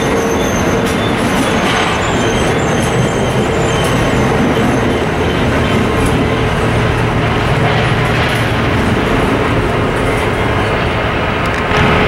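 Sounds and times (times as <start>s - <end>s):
train rumbling and rattling past: 0.0s - 12.0s.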